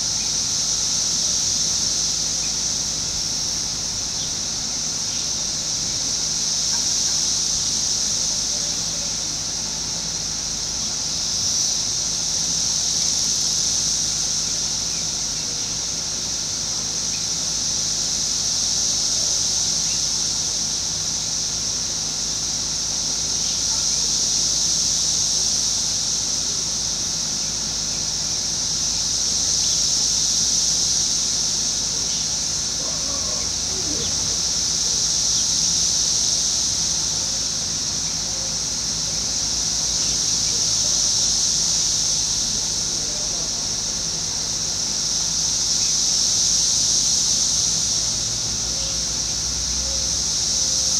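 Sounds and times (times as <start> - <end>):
cicadas buzzing drone: 0.0 - 50.9.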